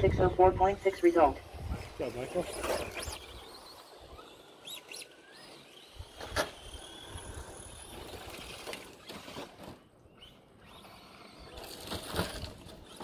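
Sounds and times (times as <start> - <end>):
rc truck motor whining: 0.2 - 13.0.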